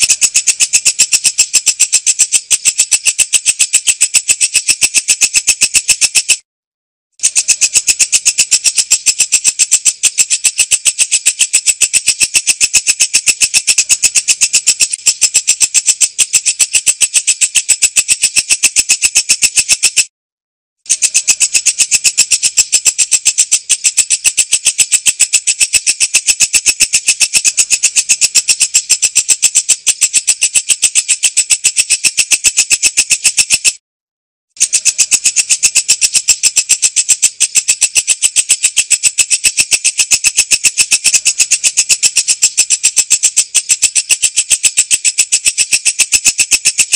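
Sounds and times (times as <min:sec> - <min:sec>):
insect high-pitched trill: 0:00.0 - 0:06.4, 0:07.2 - 0:20.1, 0:20.9 - 0:33.8, 0:34.6 - 0:46.9.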